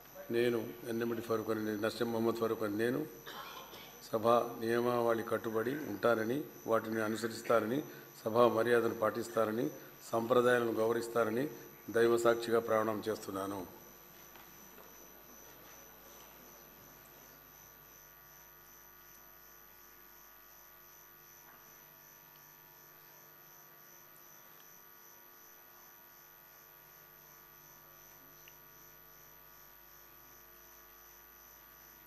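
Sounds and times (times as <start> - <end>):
faint electrical hum: 0.0 - 32.0.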